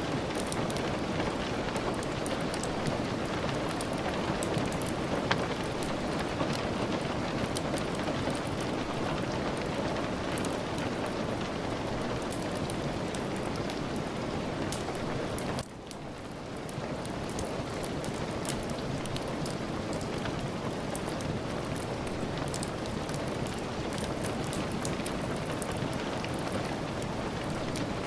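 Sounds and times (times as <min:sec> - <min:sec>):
steady rain falling: 0:00.0 - 0:28.0
wood fire crackling: 0:00.1 - 0:28.0.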